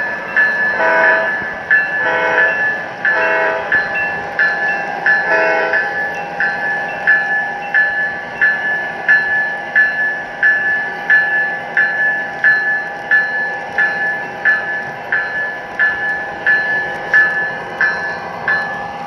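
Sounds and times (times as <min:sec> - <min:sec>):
model locomotive bell ringing: 0:00.0 - 0:19.0.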